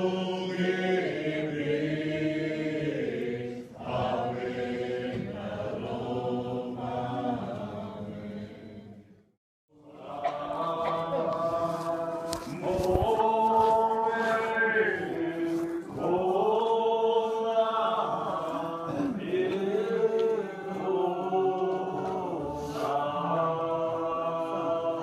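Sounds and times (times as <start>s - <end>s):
congregation singing a hymn: 0.0s - 9.1s, 9.7s - 25.0s.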